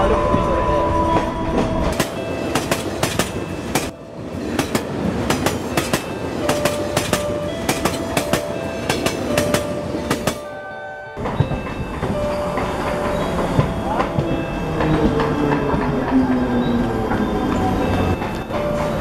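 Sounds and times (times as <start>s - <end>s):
train rumble: 0.0s - 19.0s
train wheels clacking on rail joints: 1.6s - 10.5s, 11.2s - 19.0s.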